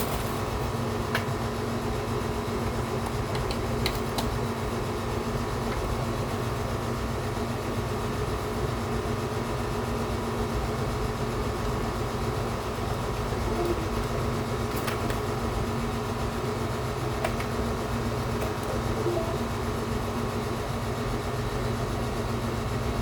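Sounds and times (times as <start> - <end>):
mechanical hum with low rumble: 0.0 - 23.0.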